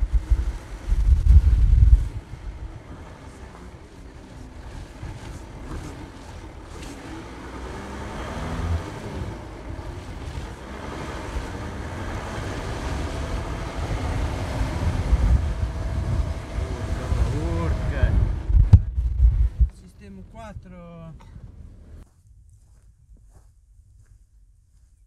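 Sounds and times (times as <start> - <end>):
car engine revving: 0.0 - 22.0
wind buffeting microphone: 0.0 - 24.1.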